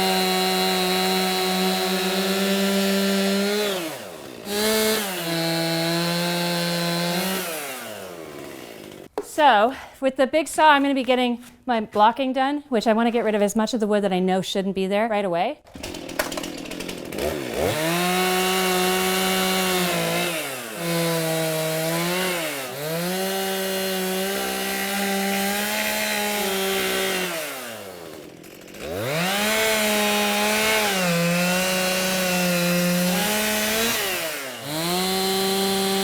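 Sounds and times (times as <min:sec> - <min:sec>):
chainsaw cutting wood: 0:00.0 - 0:09.2, 0:15.7 - 0:36.0.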